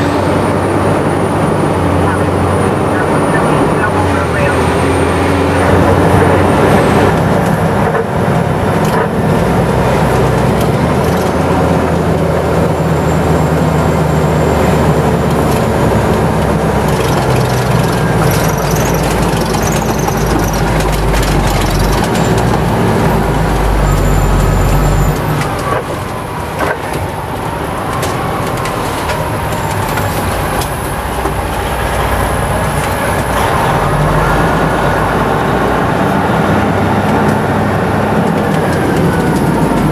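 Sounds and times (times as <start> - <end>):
road and wind noise: 0.0 - 39.9
truck engine running: 0.0 - 39.9.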